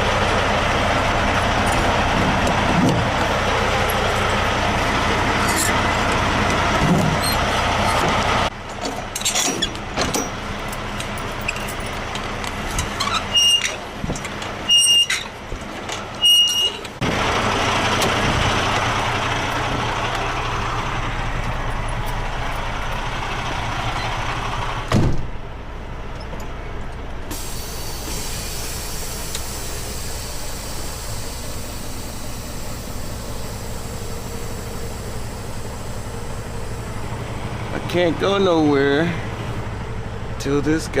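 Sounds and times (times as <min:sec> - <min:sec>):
truck engine running: 0:00.0 - 0:41.0.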